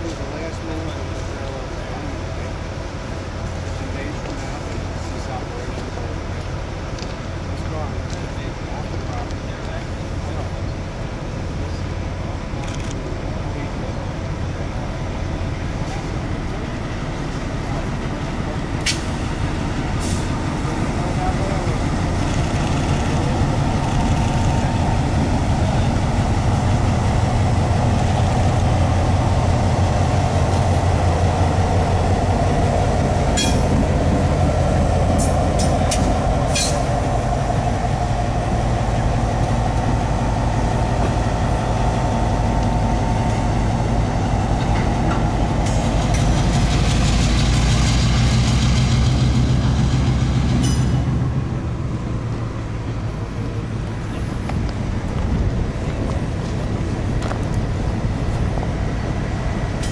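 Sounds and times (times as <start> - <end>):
diesel locomotive engine running: 0.0 - 59.9
rail car rolling past: 0.0 - 59.9.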